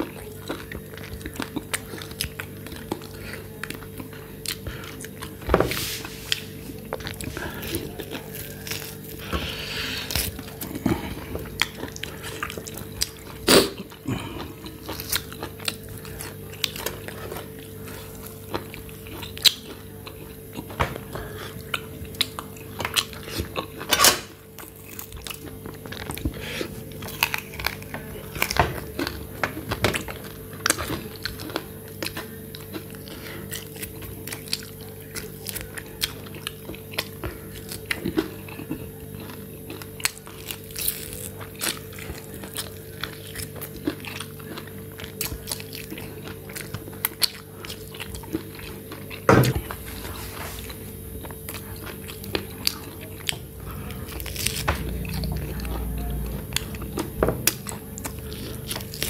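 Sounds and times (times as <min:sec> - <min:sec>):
person biting and chewing meat: 0:00.0 - 0:59.0.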